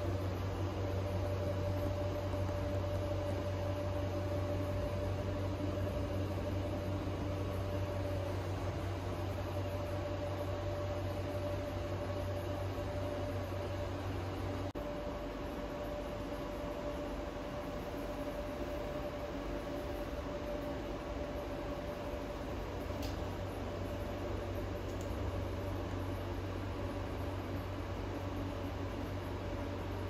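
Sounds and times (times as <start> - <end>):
faint high whine: 0.0 - 30.0
low mechanical hum: 0.0 - 30.0.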